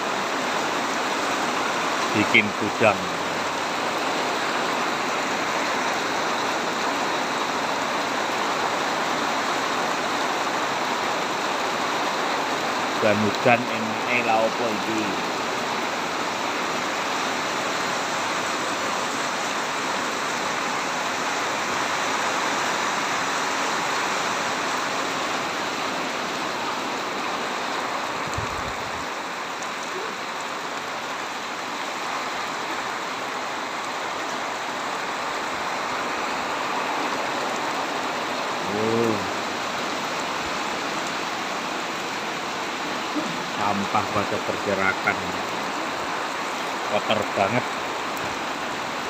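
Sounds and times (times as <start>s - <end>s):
heavy rain hiss: 0.0s - 49.0s.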